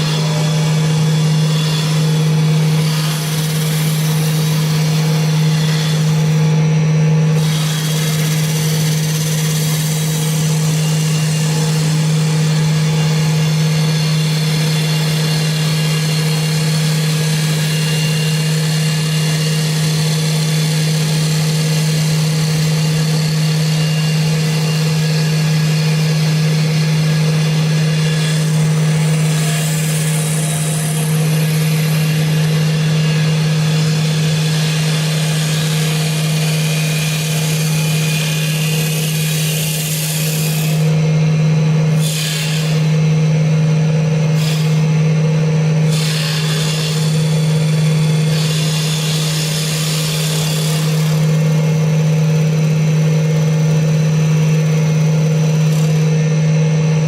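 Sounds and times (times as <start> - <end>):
wood lathe humming: 0.0 - 57.0.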